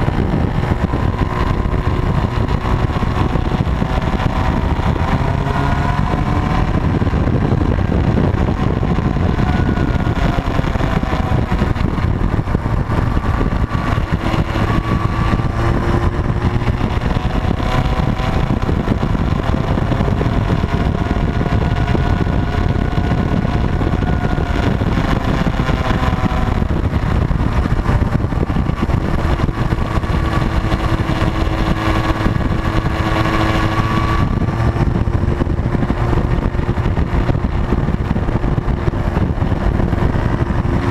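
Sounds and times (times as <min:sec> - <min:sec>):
motorcycle engines cruising: 0:00.0 - 0:40.9
road and wind noise: 0:00.0 - 0:40.9.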